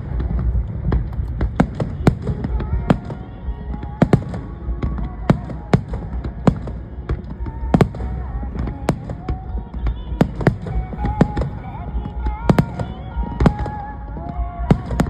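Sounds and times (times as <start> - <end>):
continuous low rumble: 0.0 - 15.0
fireworks bangs: 0.0 - 15.0.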